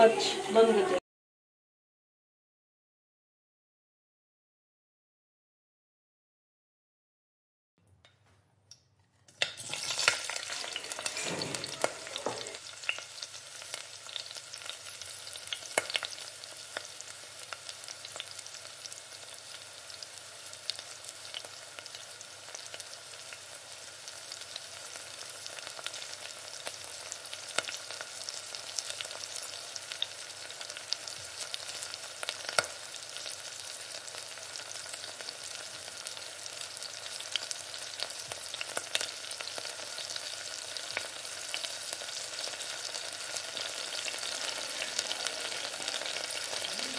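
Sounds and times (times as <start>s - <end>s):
hot oil sizzling: 9.3s - 46.9s.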